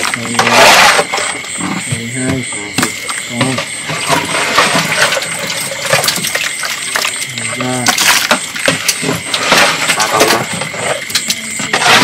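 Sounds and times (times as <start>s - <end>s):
catfish clattering in a container: 0.0s - 12.0s.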